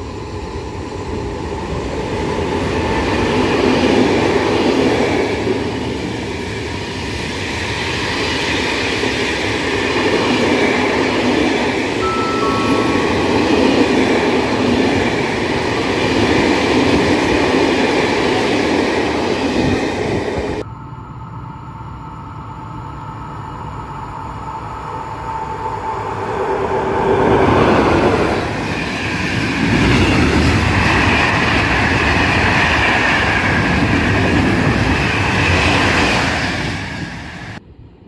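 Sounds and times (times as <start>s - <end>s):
freight train rumbling past: 0.0s - 38.0s.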